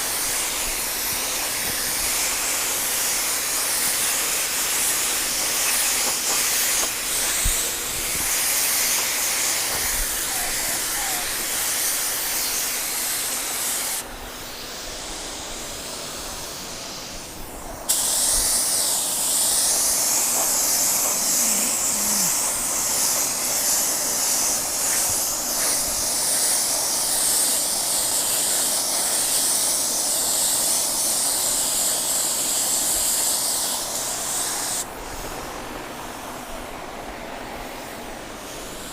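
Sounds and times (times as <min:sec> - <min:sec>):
spray gun hissing: 0:00.0 - 0:38.9.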